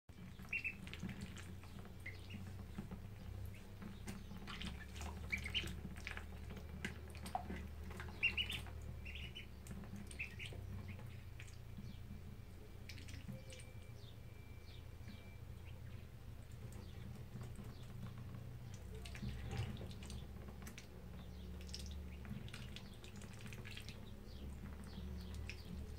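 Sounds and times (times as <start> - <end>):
ducklings peeping: 0.1 - 25.9
low steady hum: 0.1 - 25.9.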